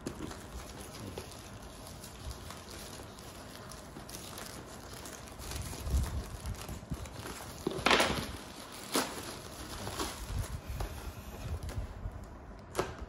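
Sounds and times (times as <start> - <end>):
plastic ripping: 0.0 - 13.0
plastic wrapping rustling: 0.0 - 13.0.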